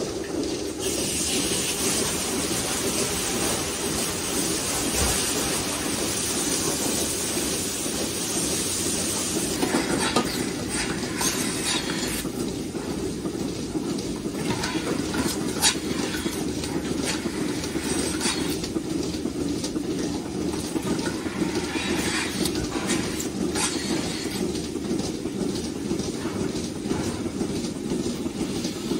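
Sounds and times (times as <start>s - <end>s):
milking machinery rumbling: 0.0s - 28.9s.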